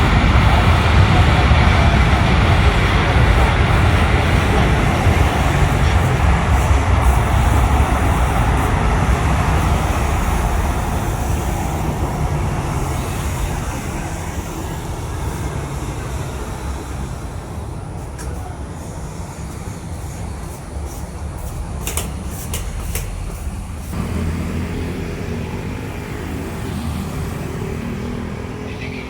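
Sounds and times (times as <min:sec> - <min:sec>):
jet engine rumble: 0:00.0 - 0:29.0.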